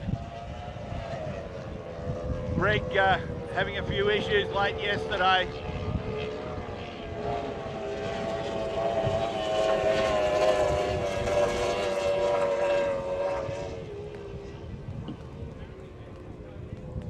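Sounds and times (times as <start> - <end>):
racing outboard engine: 0.0 - 17.0.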